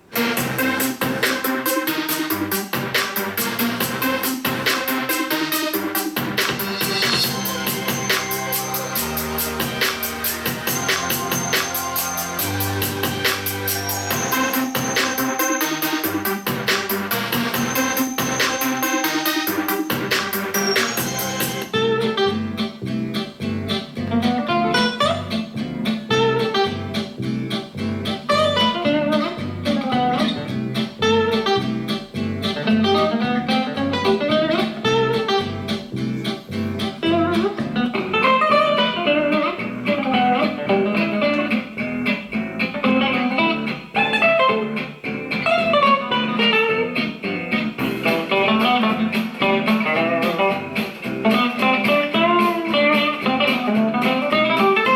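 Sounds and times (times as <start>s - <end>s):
guitar music with bass beat: 0.0s - 54.9s.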